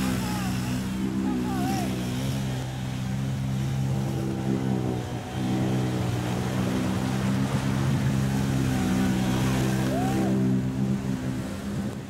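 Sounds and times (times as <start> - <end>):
fast-flowing water splashing: 0.0 - 12.0
quad bike engines running: 0.0 - 12.0.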